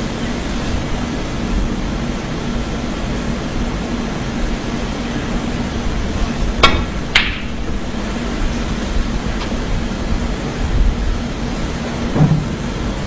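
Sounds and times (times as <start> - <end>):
steady hall hum: 0.0 - 13.0.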